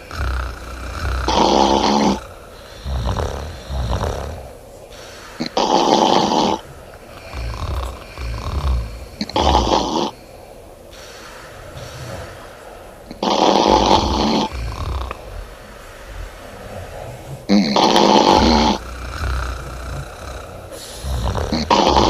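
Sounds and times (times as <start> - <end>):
woman snoring loudly: 0.0 - 4.5, 5.3 - 10.2, 11.8 - 22.0
quiet breathing: 0.0 - 22.0.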